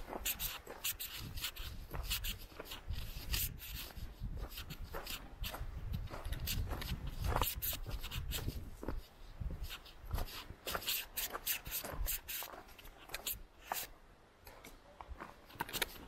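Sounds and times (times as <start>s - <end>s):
footsteps on a trail: 0.0s - 16.0s.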